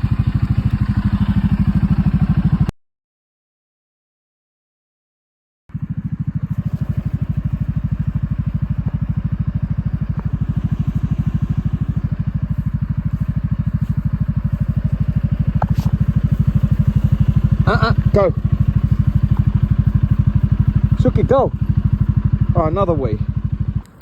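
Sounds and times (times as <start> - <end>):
farm vehicle engine running: 0.0 - 2.7, 5.7 - 24.0.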